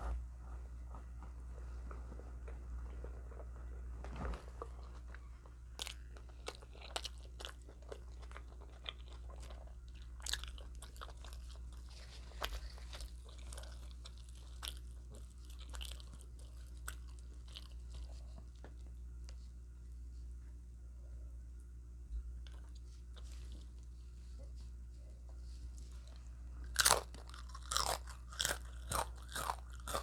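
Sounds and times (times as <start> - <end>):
steady low hum: 0.0 - 30.0
person chewing crunchy food: 1.8 - 19.4, 22.4 - 24.6, 25.4 - 30.0.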